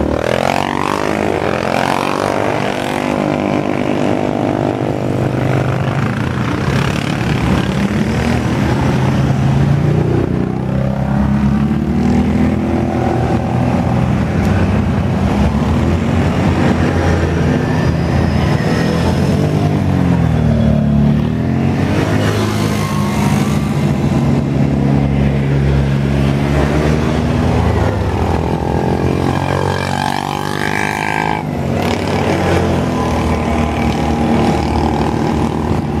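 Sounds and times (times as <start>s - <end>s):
quad bikes passing by: 0.0s - 36.0s
steady engine hum: 0.0s - 36.0s.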